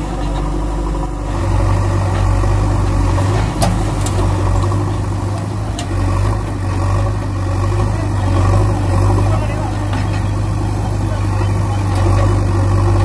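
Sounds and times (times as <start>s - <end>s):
heavy machine engine idling: 0.0s - 13.0s.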